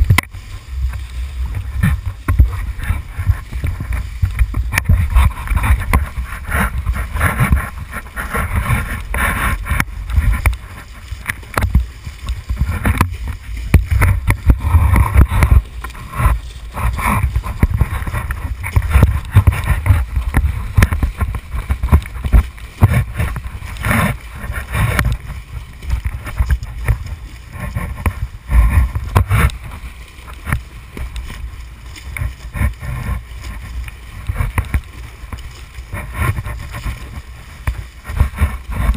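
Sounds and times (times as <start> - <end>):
rushing water and spray: 0.0 - 38.9
wind buffeting microphone: 0.0 - 38.9.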